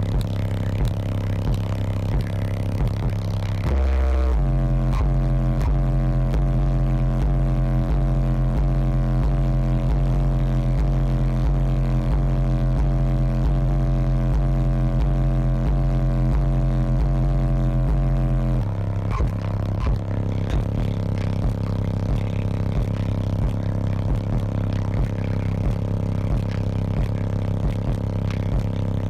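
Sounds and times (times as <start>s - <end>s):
bass-heavy music from subwoofer: 0.0s - 29.0s.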